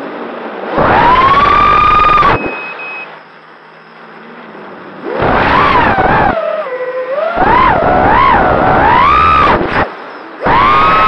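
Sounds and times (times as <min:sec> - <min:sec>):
drone motors high-pitched whine: 0:00.0 - 0:11.0
low hum: 0:00.0 - 0:11.0.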